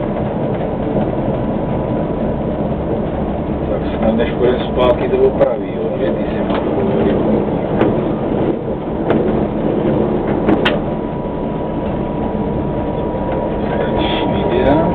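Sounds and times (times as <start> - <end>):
thin steady whine: 0.0 - 14.9
tram rumbling on track: 0.0 - 14.9.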